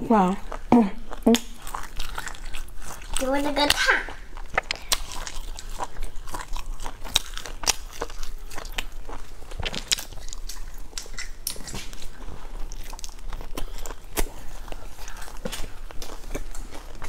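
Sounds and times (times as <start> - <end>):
chewing crispy fried food: 0.1 - 17.0.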